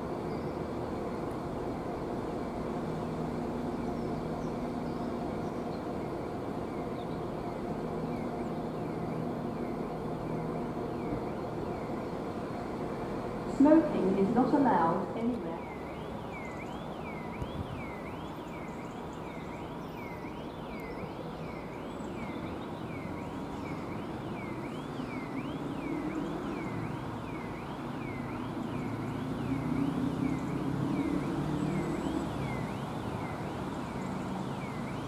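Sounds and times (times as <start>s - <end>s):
diesel train rumble: 0.0s - 35.0s.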